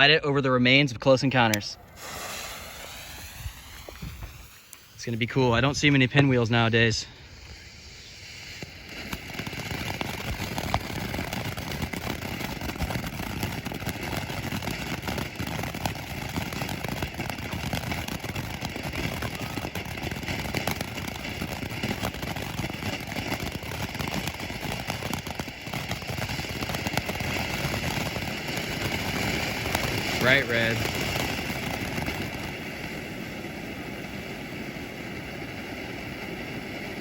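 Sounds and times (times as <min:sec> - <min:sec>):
firework crackles: 0:01.0 - 0:37.0
firework spraying sparks: 0:01.2 - 0:37.0.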